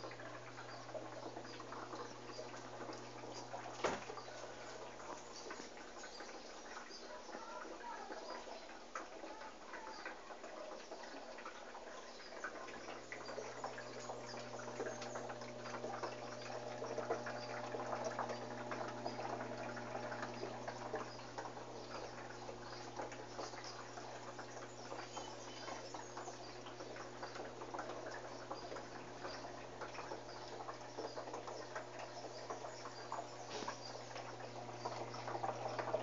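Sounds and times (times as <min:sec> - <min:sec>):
washing machine motor hum: 0:00.0 - 0:36.0.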